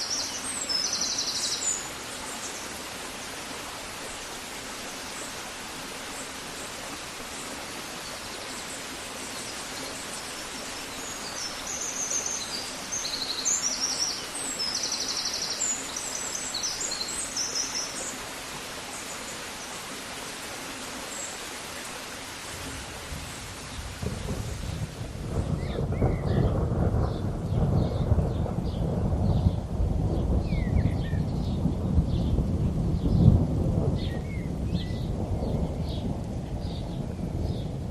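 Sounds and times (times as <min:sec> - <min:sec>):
steady outdoor hiss: 0:00.0 - 0:37.9.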